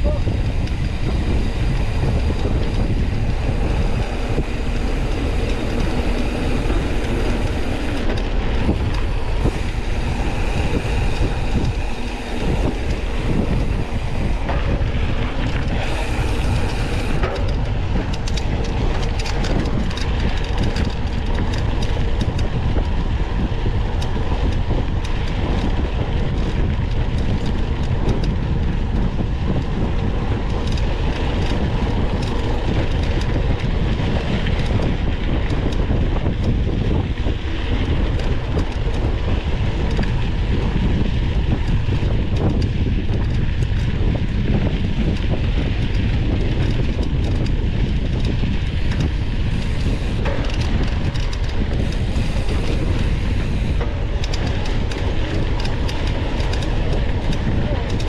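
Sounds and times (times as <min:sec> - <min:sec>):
bike rattling and clicking: 0:00.0 - 0:58.0
tyres rumbling on trail: 0:00.0 - 0:58.0
wind on microphone: 0:00.0 - 0:58.0.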